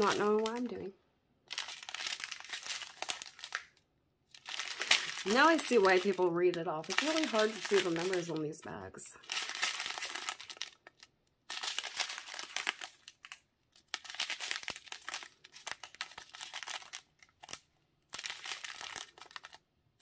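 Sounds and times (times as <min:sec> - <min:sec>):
plastic bags crinkling: 0:00.0 - 0:00.9, 0:01.5 - 0:08.6, 0:09.2 - 0:20.0.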